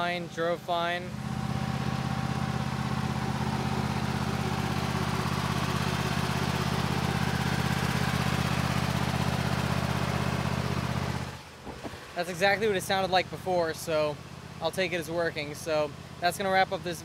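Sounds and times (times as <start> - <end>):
mower engine running steadily: 0.0 - 17.0.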